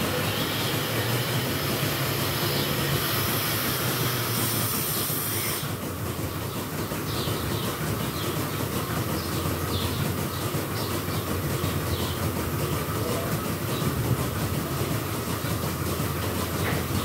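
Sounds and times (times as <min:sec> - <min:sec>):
milking machinery rumble: 0:00.0 - 0:17.0.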